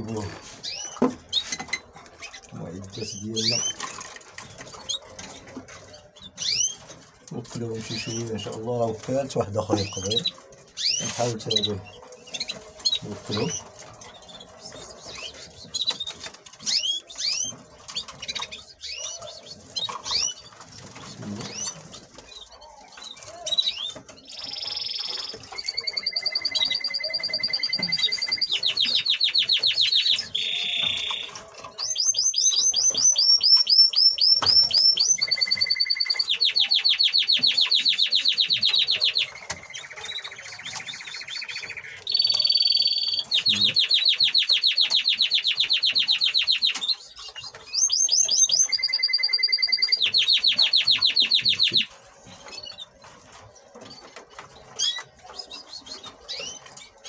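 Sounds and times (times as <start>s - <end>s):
canary singing trills: 0.0s - 57.0s
nestling birds cheeping: 0.0s - 57.0s.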